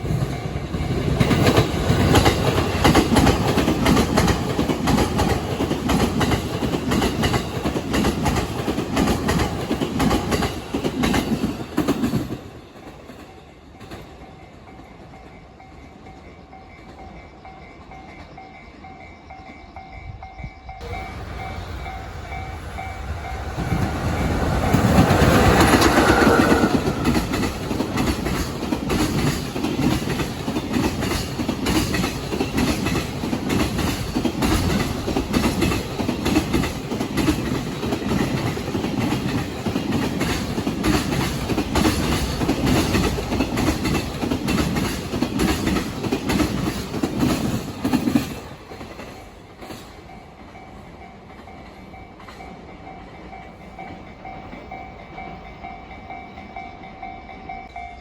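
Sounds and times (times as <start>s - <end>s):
train wheels clacking over joints: 0.0s - 14.2s, 21.8s - 55.4s
locomotive passing: 0.0s - 58.0s.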